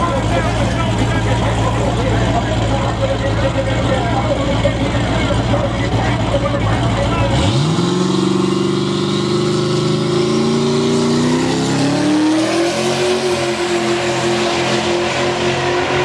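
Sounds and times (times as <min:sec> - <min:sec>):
v eight engine revving: 0:00.0 - 0:16.0.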